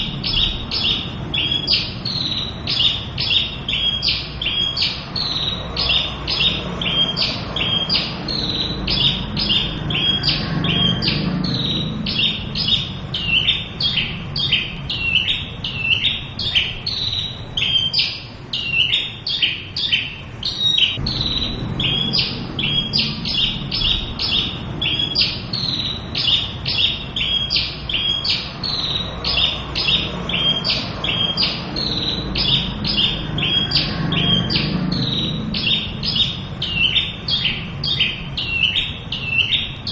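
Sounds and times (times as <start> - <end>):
bird singing chirping notes: 0.0 - 39.9.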